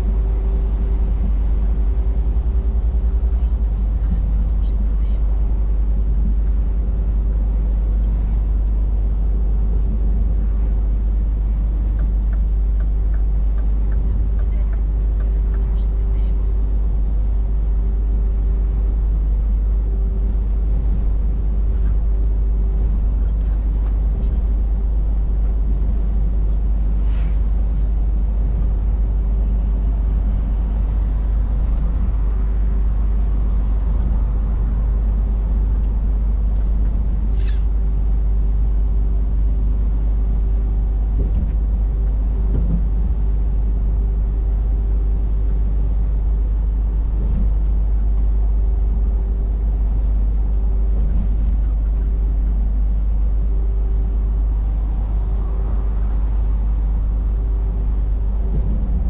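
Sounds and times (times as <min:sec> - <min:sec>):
diesel engine rumble: 0:00.0 - 0:59.0
faint constant hum: 0:00.0 - 0:59.0
road and tyre noise: 0:00.0 - 0:59.0.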